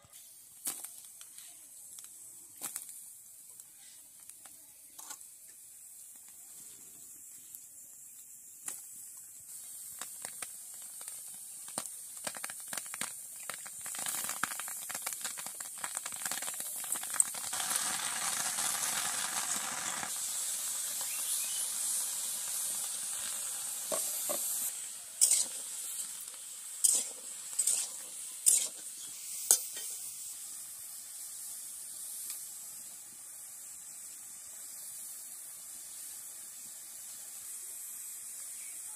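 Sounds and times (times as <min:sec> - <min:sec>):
vegetables sizzling in a pan: 0:00.0 - 0:38.9.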